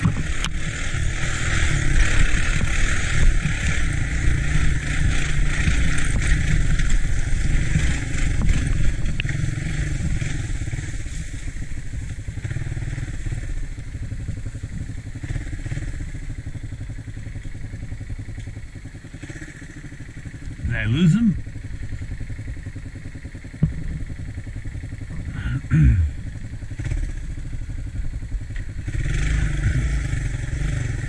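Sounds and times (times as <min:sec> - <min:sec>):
three-wheeler engine running: 0:00.0 - 0:31.0.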